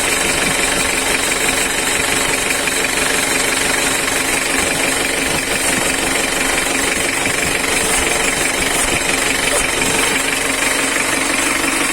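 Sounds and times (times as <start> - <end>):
engine running with rattling knock: 0.0 - 11.9.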